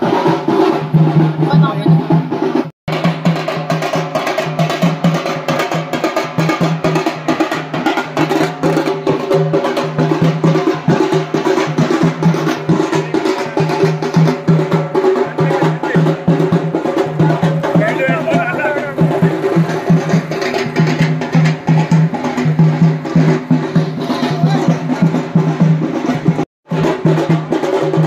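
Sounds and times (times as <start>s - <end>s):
hand drums beaten with sticks: 0.0s - 28.0s.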